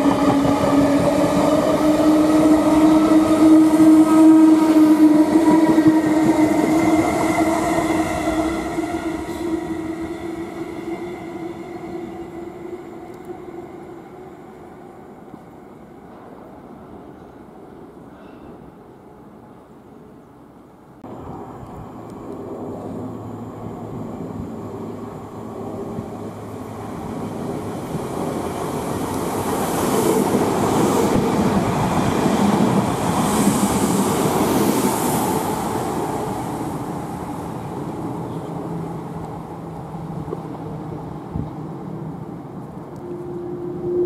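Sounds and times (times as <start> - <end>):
train passing on rails: 0.0 - 44.0.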